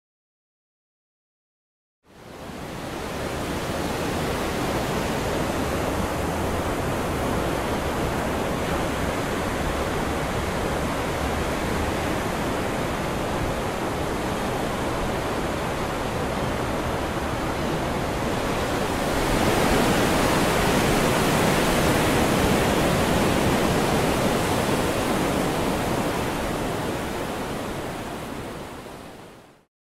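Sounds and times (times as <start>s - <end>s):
ocean surf breaking: 2.5s - 29.2s.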